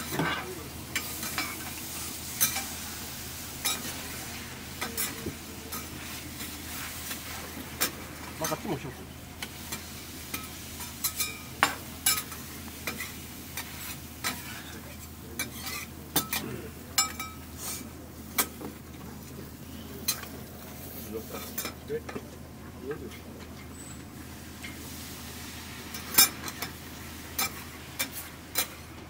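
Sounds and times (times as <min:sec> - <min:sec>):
liver sizzling on a hot plate: 0:00.0 - 0:18.7, 0:19.4 - 0:21.8, 0:24.1 - 0:28.9.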